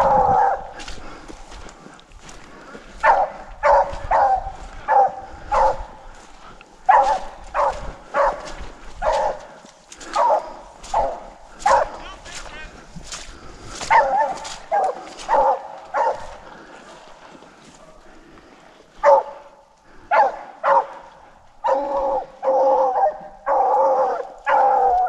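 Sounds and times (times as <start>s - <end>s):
hounds baying: 0.0s - 1.4s, 2.2s - 12.2s, 13.7s - 17.5s, 18.9s - 25.0s.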